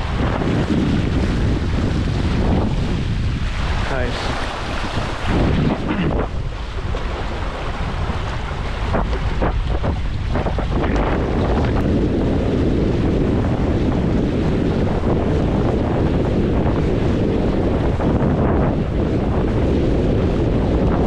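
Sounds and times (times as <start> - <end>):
water rushing and splashing: 0.0 - 21.0
wind buffeting microphone: 0.0 - 21.0.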